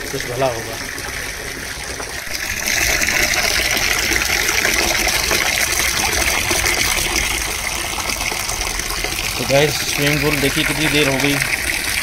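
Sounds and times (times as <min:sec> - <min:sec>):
water gushing into container: 0:00.0 - 0:12.0.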